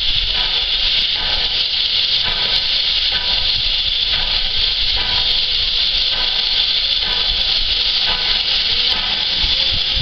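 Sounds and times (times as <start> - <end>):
steam hissing from locomotive: 0.0 - 10.0.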